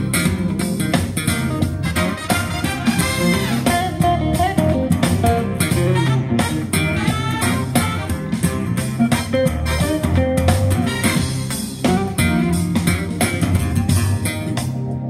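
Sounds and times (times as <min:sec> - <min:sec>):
guitar-led music with beat: 0:00.0 - 0:15.0.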